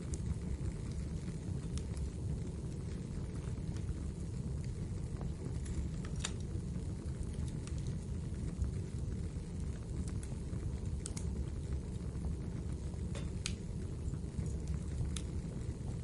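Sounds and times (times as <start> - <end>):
fire crackling and popping: 0.0 - 16.0
fire low rumble: 0.0 - 16.0.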